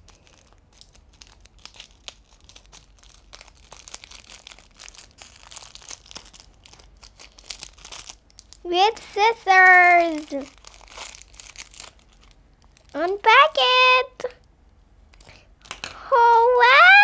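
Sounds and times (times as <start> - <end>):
plastic packaging crinkling: 0.0 - 14.5.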